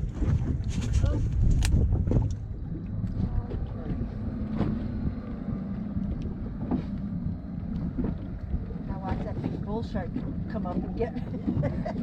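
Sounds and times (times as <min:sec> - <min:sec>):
low rumble of water: 0:00.0 - 0:12.0
wind buffeting microphone: 0:00.0 - 0:12.0.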